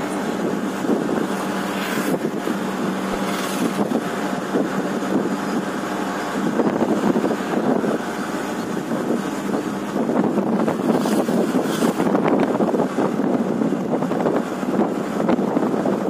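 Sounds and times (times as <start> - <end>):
rushing wind: 0.0 - 16.0
vehicle road noise: 0.0 - 16.0.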